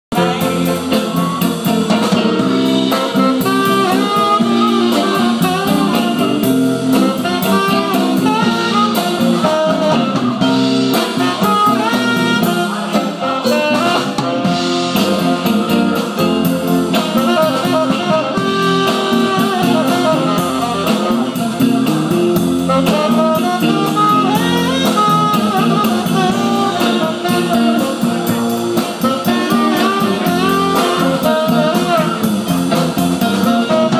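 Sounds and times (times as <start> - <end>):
drum kit beat: 0.1 - 33.9
live jazz band: 0.1 - 33.9
saxophone melody: 0.1 - 33.9.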